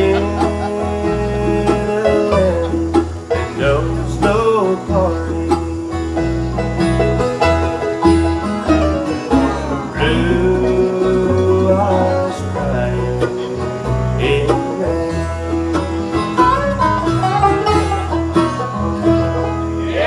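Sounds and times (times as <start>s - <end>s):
bass line: 0.0s - 20.0s
bluegrass band playing: 0.0s - 20.0s.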